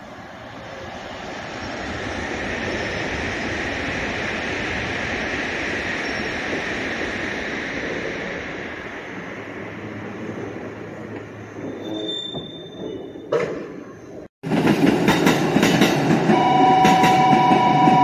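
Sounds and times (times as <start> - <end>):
electric train wheels on rails: 0.0 - 18.0.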